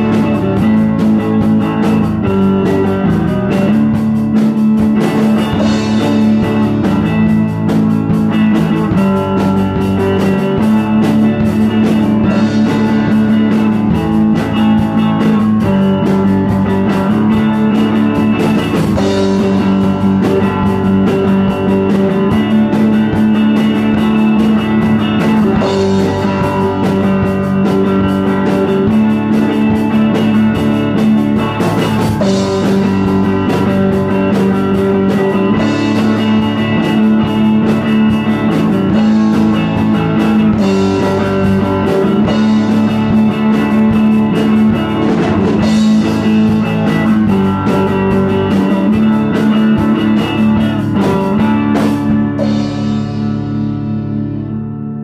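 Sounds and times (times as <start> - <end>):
drum kit rock rhythm: 0.0 - 55.0
electric guitar strumming chords: 0.0 - 55.0
rock band playing: 0.0 - 55.0.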